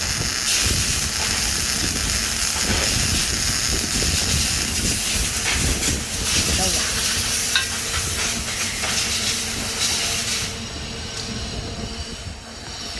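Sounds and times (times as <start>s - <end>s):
welding arc crackling and sizzling: 0.0s - 10.7s.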